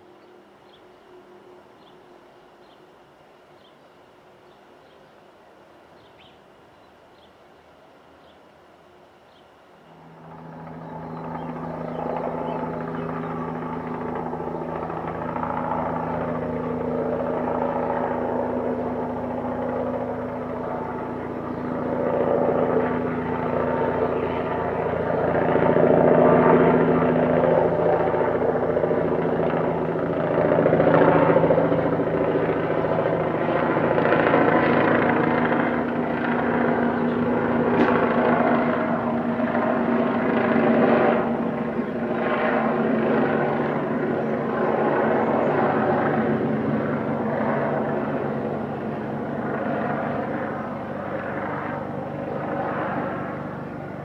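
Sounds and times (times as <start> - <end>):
helicopter flying overhead: 0.0 - 5.3, 8.8 - 54.0.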